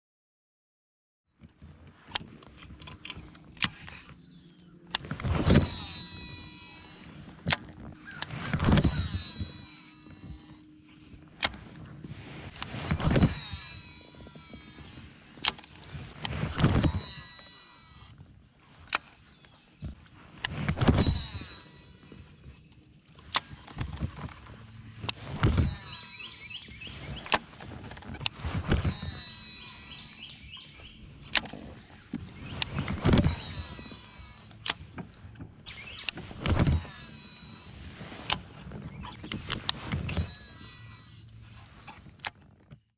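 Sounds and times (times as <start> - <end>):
fishing reel spool whining: 1.9 - 42.9
sharp clicks: 2.1 - 4.3, 4.9 - 42.4.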